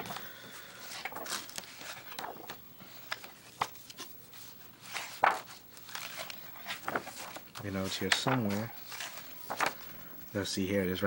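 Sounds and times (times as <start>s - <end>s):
book pages flipping: 0.0s - 10.1s.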